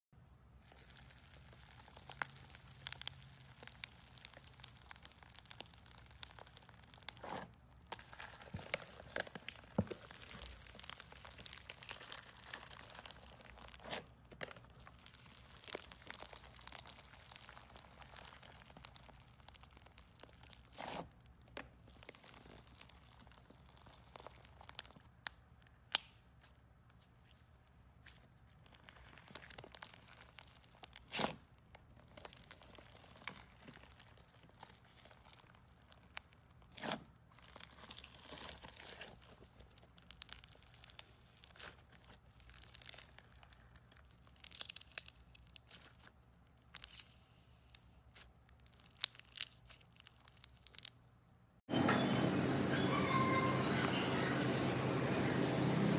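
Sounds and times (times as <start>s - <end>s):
slime crackling and crunching: 0.5s - 51.2s.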